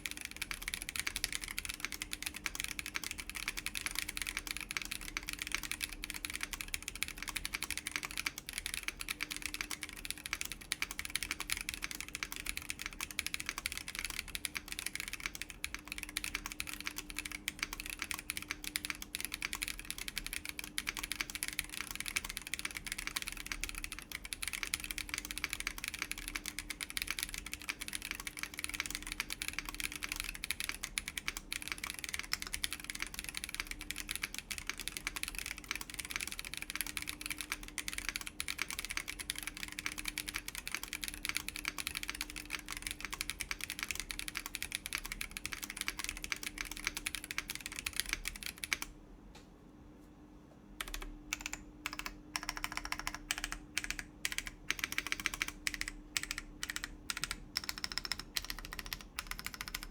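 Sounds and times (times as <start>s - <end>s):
fast typing on mechanical keyboard: 0.0s - 49.0s, 50.8s - 59.9s.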